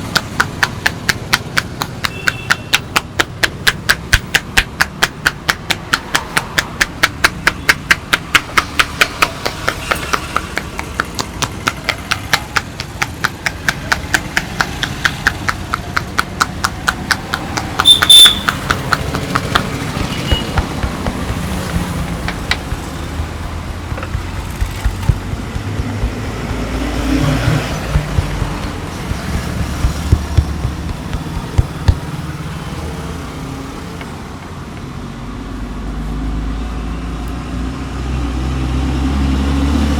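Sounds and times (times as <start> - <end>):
hands slapping in massage: 0.0 - 32.2
street traffic rumble: 0.0 - 39.9.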